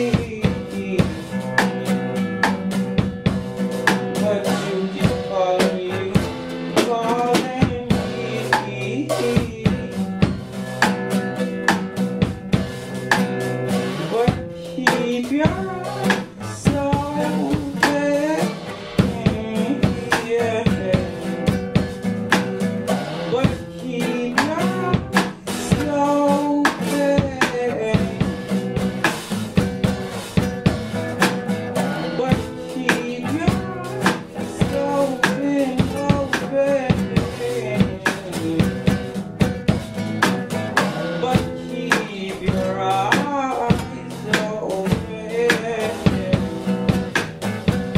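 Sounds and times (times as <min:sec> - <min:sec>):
drum kit beat: 0:00.0 - 0:47.9
nylon-string guitar: 0:00.0 - 0:47.9.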